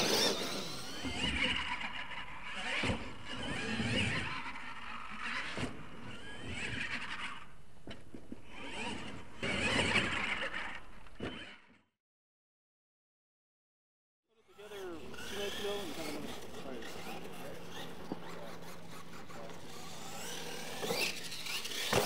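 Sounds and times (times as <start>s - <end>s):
electric motor and gears whining: 0.0s - 11.8s, 14.5s - 22.0s.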